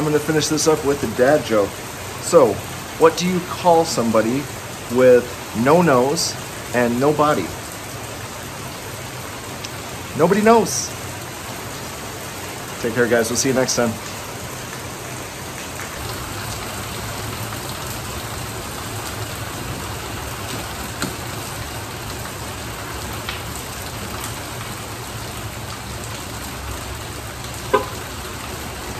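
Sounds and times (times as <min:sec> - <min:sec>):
heavy rain on pavement: 0:00.0 - 0:28.9.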